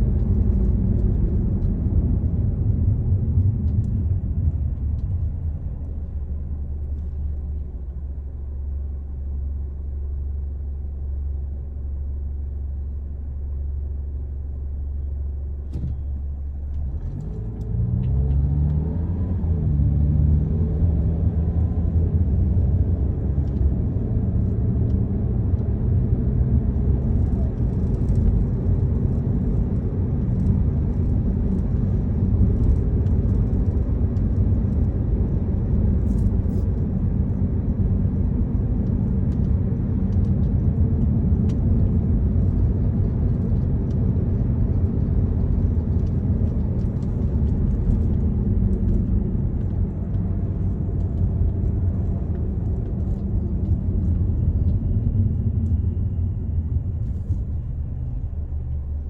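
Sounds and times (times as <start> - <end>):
car interior road rumble: 0.0 - 59.0.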